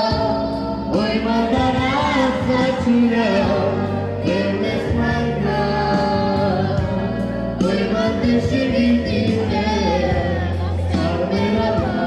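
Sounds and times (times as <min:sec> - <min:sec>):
amplified keyboard: 0:00.0 - 0:12.0
boy singing through microphone: 0:00.0 - 0:12.0.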